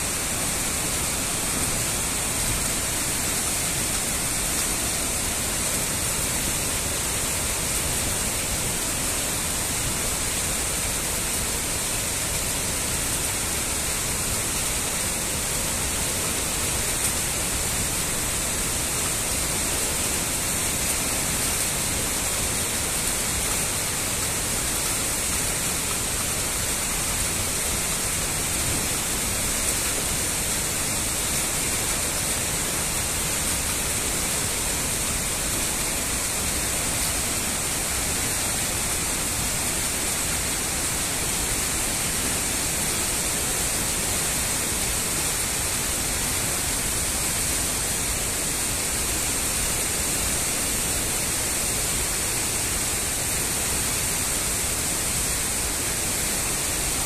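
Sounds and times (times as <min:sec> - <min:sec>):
water rushing loudly: 0:00.0 - 0:57.0.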